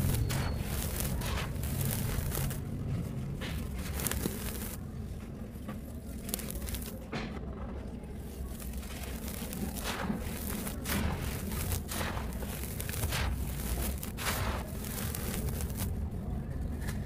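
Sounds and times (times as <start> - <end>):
earth crumbling gritty rustle: 0.0 - 7.0, 8.2 - 16.1.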